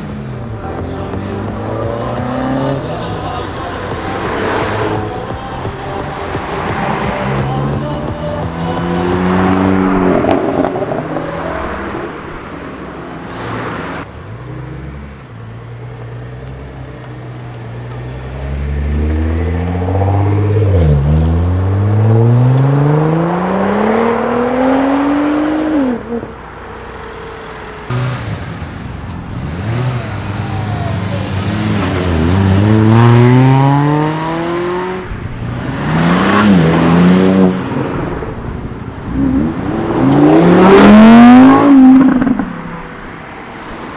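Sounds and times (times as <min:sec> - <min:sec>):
cars accelerating hard: 0:00.0 - 0:43.9.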